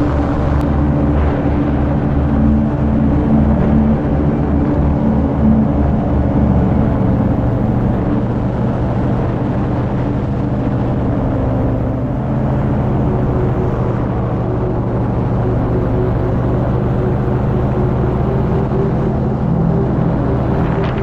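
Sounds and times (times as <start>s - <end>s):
paramotor engine droning: 0.0s - 21.0s.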